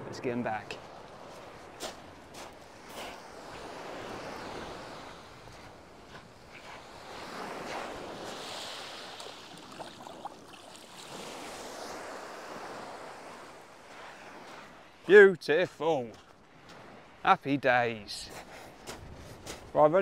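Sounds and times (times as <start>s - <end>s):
waves washing up a shingle beach: 0.1s - 17.2s.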